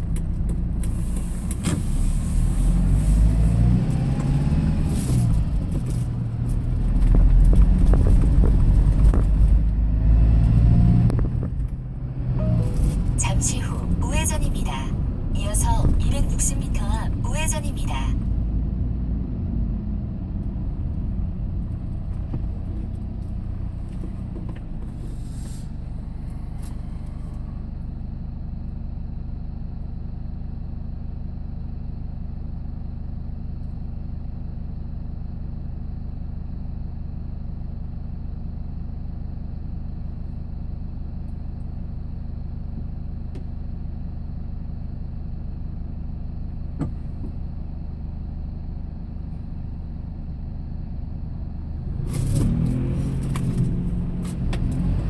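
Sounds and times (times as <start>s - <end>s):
vehicle engine and road drone: 0.0s - 55.0s.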